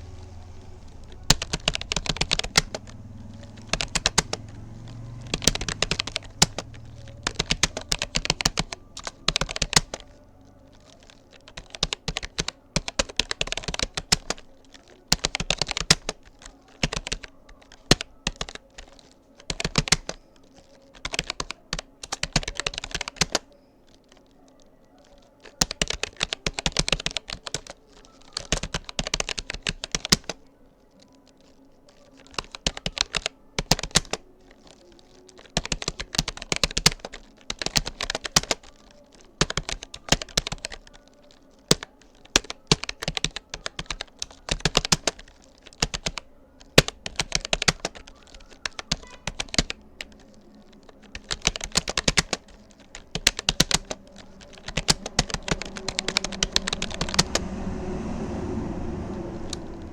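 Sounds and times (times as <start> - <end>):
computer keyboard typing: 0.0 - 59.9.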